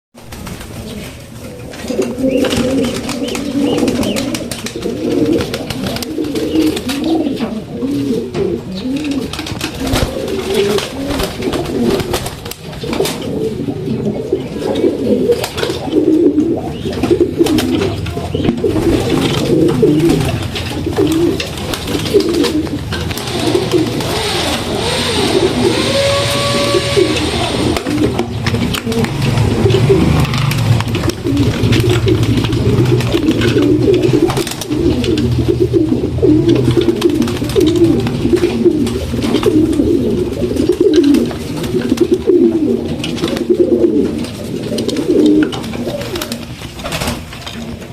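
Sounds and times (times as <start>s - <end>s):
pigeons cooing: 0.3s - 47.9s.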